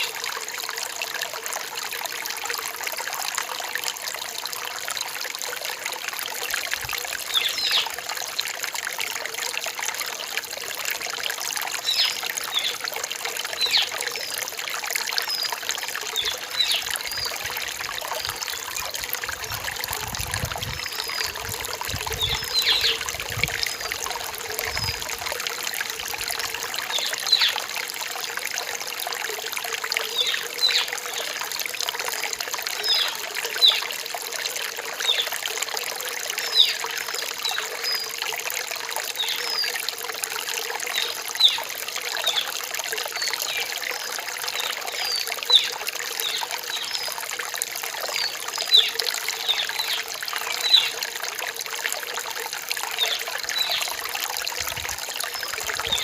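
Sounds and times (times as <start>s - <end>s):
stream trickling over rocks: 0.0s - 56.0s
water plinks: 3.0s - 56.0s.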